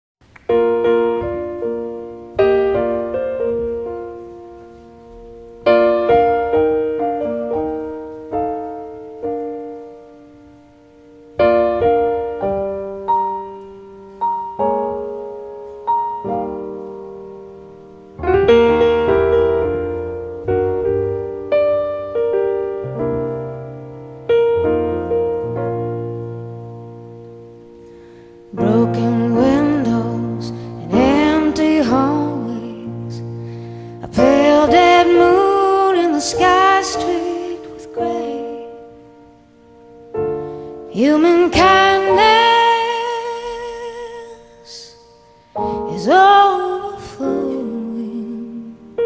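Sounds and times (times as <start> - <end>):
low piano bass notes: 0.2 - 44.4
slow solo piano chords: 0.2 - 49.0.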